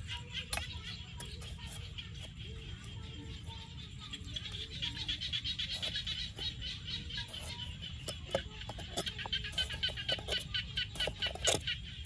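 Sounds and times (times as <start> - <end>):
frogs calling: 0.0 - 12.0.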